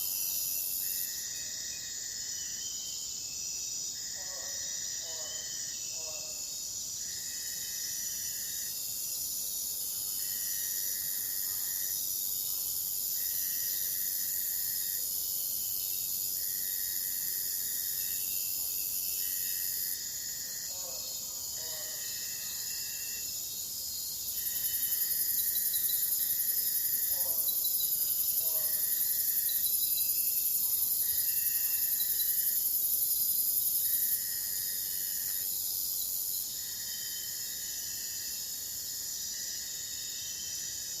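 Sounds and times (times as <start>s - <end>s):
high-pitched insect trill: 0.0s - 41.0s
lower pulsing insect trill: 0.0s - 41.0s.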